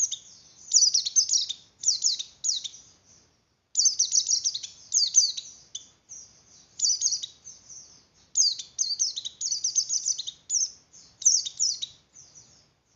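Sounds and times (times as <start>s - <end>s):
bird twittering song: 0.0s - 12.9s.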